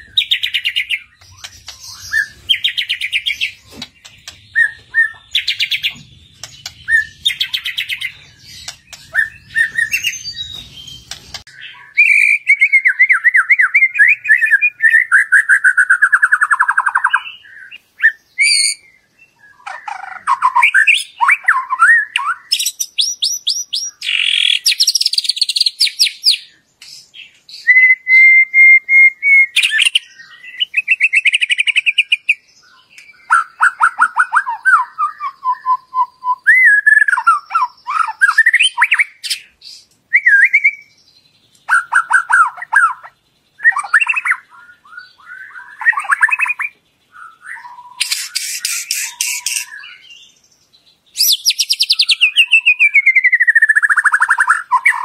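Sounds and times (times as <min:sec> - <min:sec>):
songbird trills and whistles: 0:00.0 - 0:55.0.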